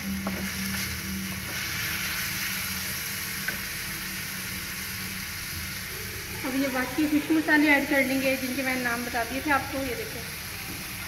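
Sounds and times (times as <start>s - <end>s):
onion and tomato sizzling: 0.0s - 11.0s.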